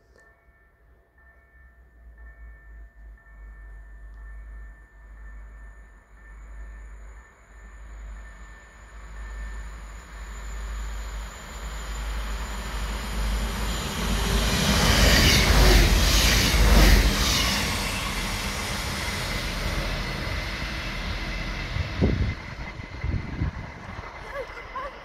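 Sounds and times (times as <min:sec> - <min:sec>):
train passing at speed: 0:00.4 - 0:25.0.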